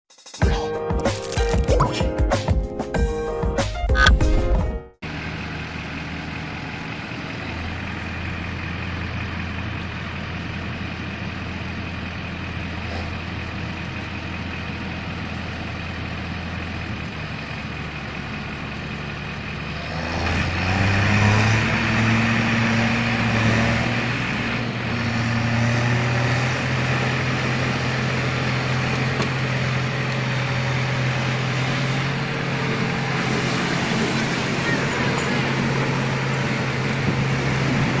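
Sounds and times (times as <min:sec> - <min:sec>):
heavy truck engine running: 0:04.0 - 0:38.0.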